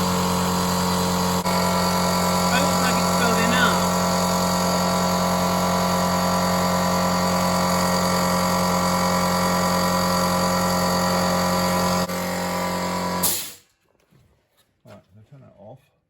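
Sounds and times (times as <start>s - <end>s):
electric air compressor humming: 0.0s - 13.6s.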